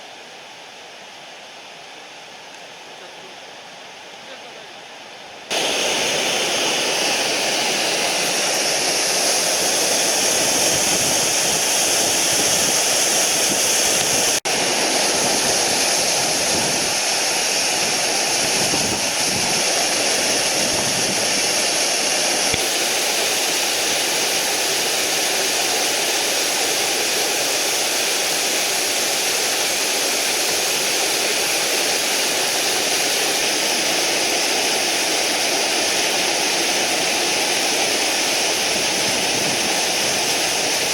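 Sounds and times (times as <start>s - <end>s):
stream rushing over rocks: 5.5s - 40.9s.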